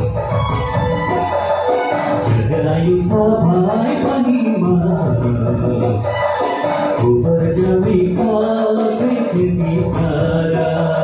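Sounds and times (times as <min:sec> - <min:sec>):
electronic keyboard playing: 0:00.0 - 0:11.0
man singing into microphone: 0:02.1 - 0:11.0.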